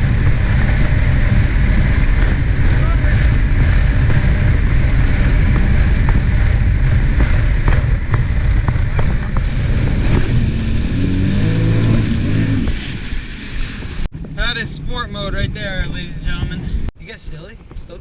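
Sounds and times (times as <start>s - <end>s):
jet ski engine rumbling: 0.0s - 18.0s.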